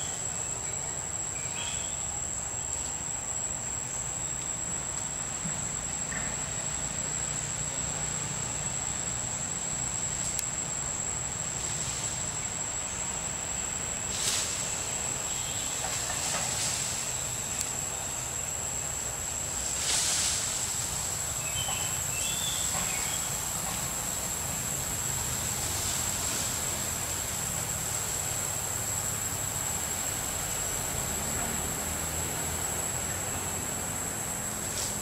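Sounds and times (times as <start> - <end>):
high-pitched insect drone: 0.0 - 35.0.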